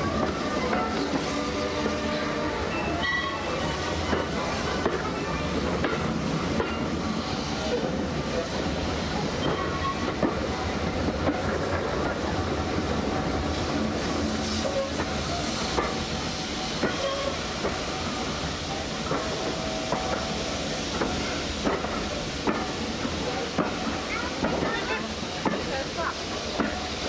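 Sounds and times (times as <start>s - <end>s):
steam train rumble and hiss: 0.0s - 27.0s.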